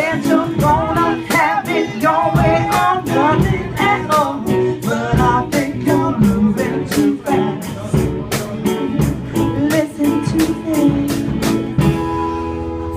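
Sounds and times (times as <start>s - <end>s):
guitar strumming chords: 0.0s - 12.9s.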